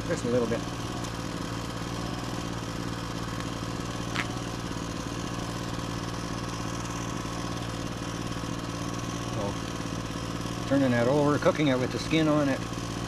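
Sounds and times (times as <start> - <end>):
generator engine hum: 0.0 - 13.0.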